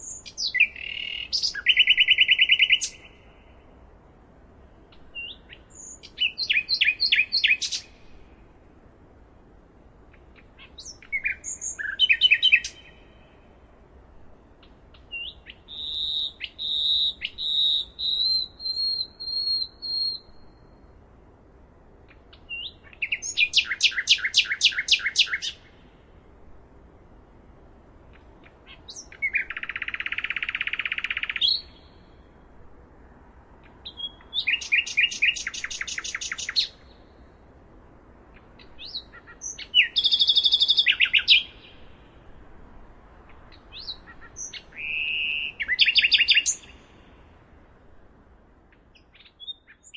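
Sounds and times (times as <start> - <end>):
songbirds singing: 0.0 - 9.0, 10.0 - 21.2, 22.0 - 26.9, 28.0 - 32.6, 33.5 - 49.9
faint steady hiss: 0.0 - 49.9.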